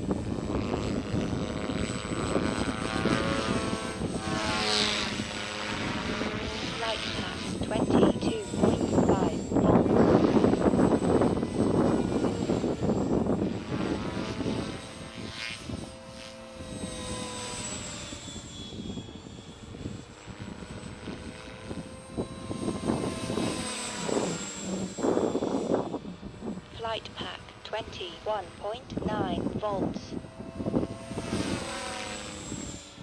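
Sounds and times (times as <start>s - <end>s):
motor whine: 0.0s - 33.0s
rc helicopter rotor and motor: 0.0s - 33.0s.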